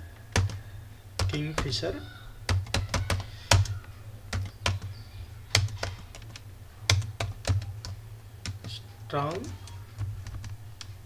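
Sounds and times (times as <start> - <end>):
computer keyboard typing: 0.3 - 11.0.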